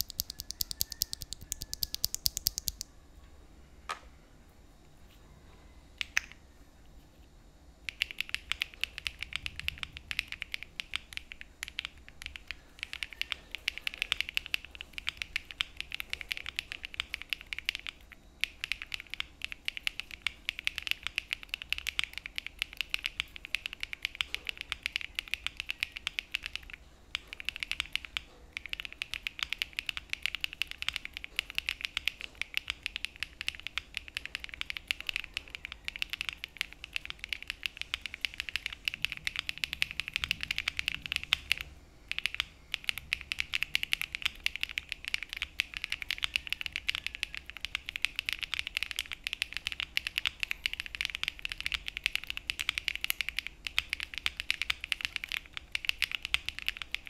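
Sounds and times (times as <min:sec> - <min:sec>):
mechanical keyboard key clacks: 0:00.0 - 0:02.8, 0:07.9 - 0:57.0.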